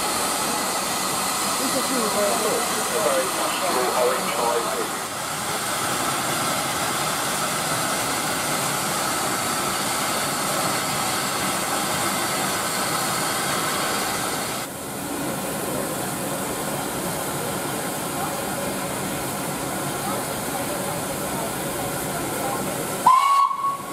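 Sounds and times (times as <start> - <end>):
steam hissing from locomotive: 0.0 - 23.9.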